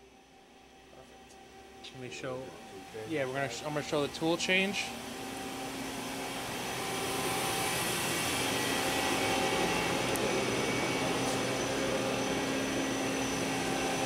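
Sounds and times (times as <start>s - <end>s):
coolant pump whirring hum: 0.0s - 14.0s.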